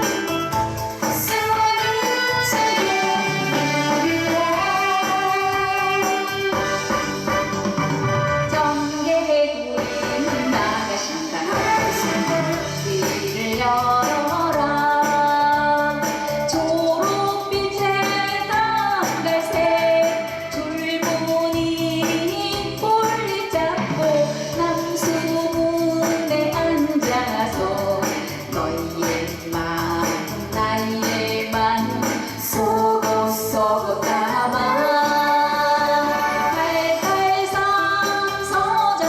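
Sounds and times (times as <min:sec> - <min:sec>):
woman singing: 0:00.0 - 0:07.4, 0:08.4 - 0:39.0
backing track with steady beat: 0:00.0 - 0:39.0.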